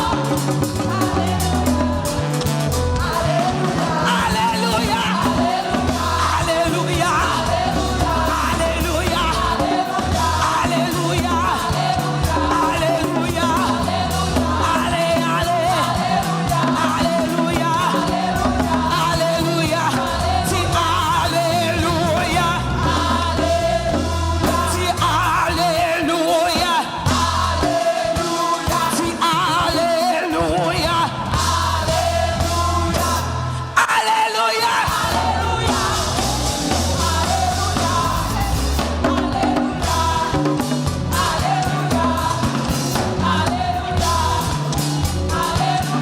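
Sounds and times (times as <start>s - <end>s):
sustained bass notes: 0.0s - 16.2s, 18.2s - 25.5s, 31.2s - 33.7s, 35.1s - 46.0s
band playing: 0.0s - 34.0s, 34.6s - 46.0s
gospel singing: 0.0s - 46.0s.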